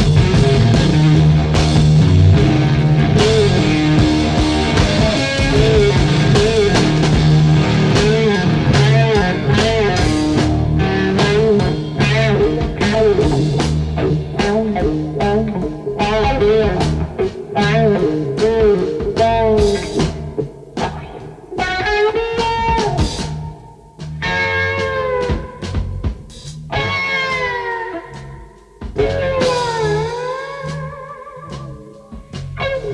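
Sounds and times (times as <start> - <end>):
electric guitar solo: 0.0 - 20.2, 20.8 - 25.9, 26.7 - 32.9
drums: 0.0 - 32.9.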